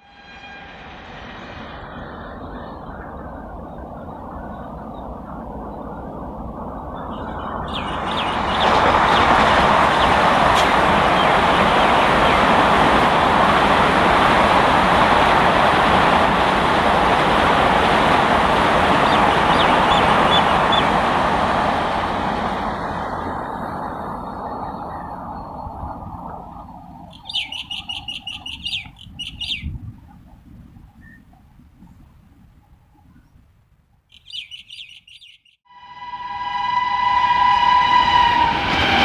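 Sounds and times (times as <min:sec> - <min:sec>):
train passing at speed: 0:00.0 - 0:31.2, 0:34.1 - 0:39.0.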